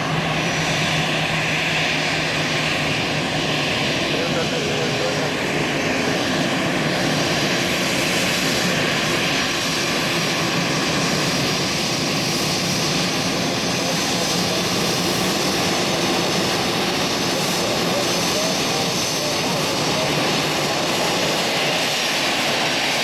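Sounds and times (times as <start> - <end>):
jet engines roaring and whining: 0.0 - 23.0.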